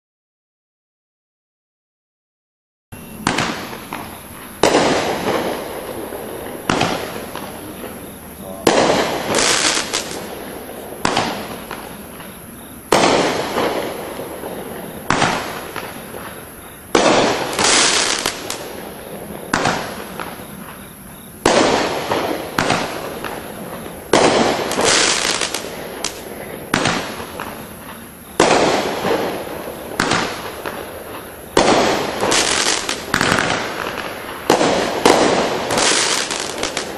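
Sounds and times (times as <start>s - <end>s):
firework shots banging: 3.0s - 36.9s.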